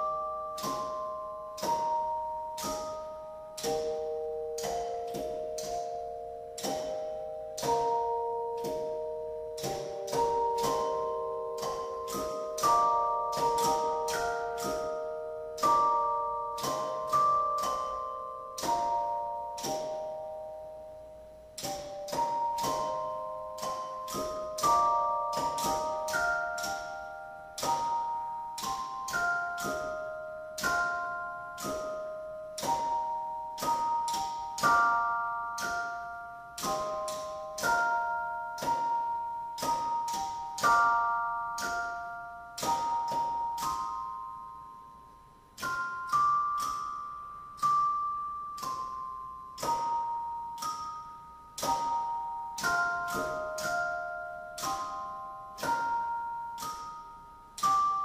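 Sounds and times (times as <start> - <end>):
tuned chimes ringing melody: 0.0 - 58.0.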